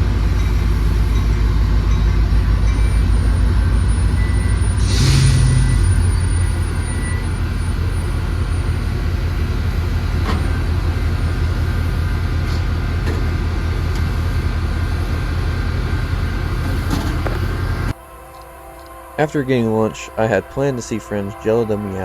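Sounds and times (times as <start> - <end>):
diesel locomotive engine running: 0.0 - 18.0.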